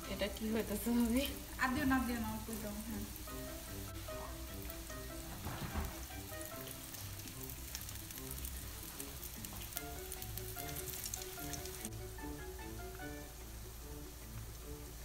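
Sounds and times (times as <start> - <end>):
batter sizzling in hot oil: 0.0 - 15.0
light background music: 0.0 - 15.0.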